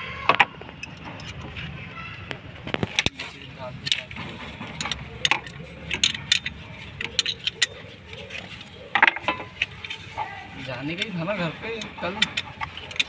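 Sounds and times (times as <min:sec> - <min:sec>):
spanner clinking against bolts: 0:00.3 - 0:01.6, 0:02.9 - 0:10.1, 0:10.8 - 0:13.0.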